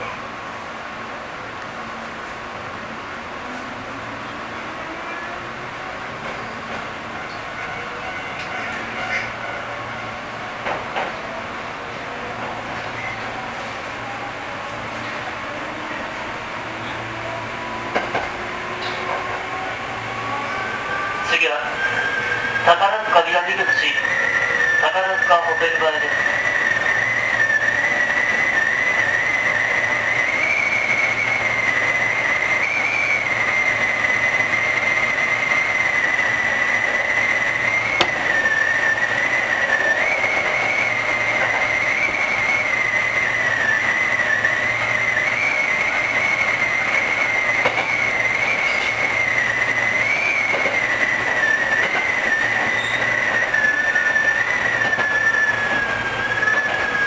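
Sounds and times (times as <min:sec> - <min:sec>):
electric train running: 0:03.5 - 0:57.0.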